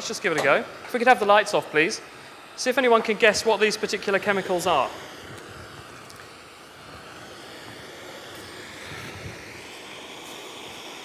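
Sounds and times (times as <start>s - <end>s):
blowtorch flame hissing: 0.0s - 11.0s.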